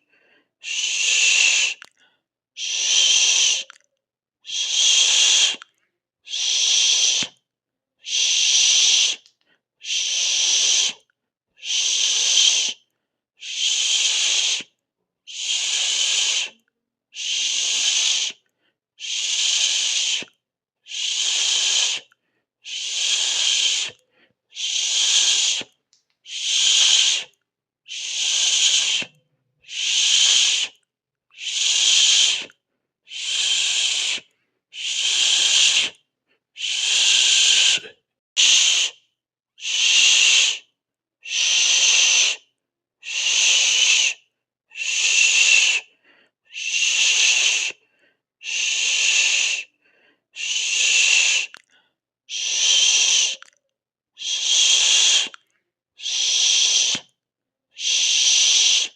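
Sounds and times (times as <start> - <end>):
person hissing through teeth: 0.6 - 2.0, 2.6 - 3.8, 4.4 - 5.7, 6.3 - 7.4, 8.0 - 11.0, 11.6 - 12.8, 13.4 - 16.6, 17.2 - 18.4, 19.0 - 36.0, 36.6 - 39.0, 39.6 - 47.8, 48.4 - 49.8, 50.4 - 53.5, 54.2 - 55.4, 56.0 - 57.2, 57.8 - 58.9.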